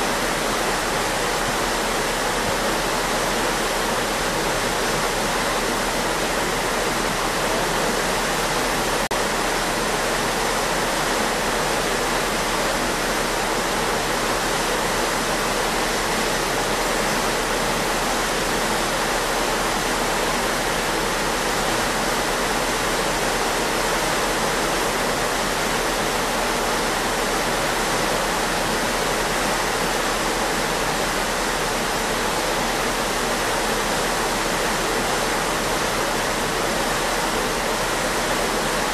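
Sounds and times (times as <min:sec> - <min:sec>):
churning water rushing: 0:00.0 - 0:38.9.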